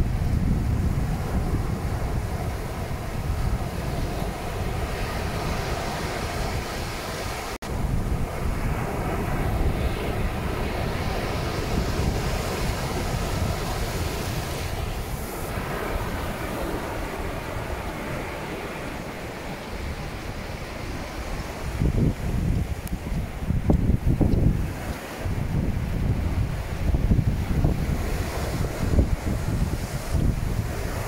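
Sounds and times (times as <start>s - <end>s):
surf breaking on a beach: 0.0s - 31.0s
wind rumbling on microphone: 0.0s - 31.0s.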